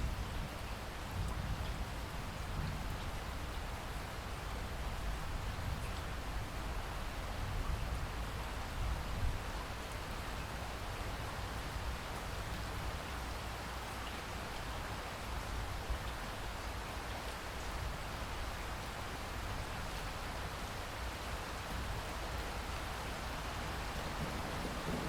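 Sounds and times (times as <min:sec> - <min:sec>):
steady rainfall: 0:00.0 - 0:25.0.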